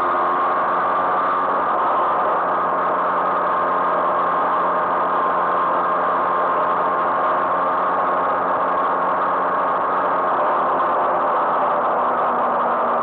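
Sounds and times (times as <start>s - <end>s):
moped engine running steadily: 0.0s - 13.0s.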